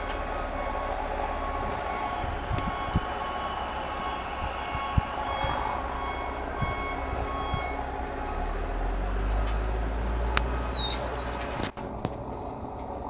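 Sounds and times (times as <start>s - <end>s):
reversing alarm beeping: 0.0s - 11.2s
heavy machine engine running: 0.0s - 13.0s.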